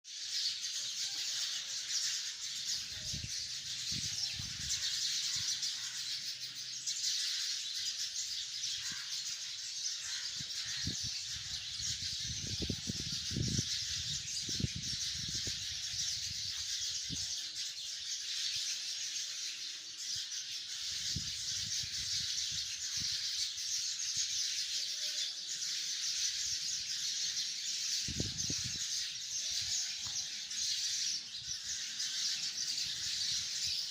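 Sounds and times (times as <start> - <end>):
flock of sparrows chirping: 0.1 - 33.9.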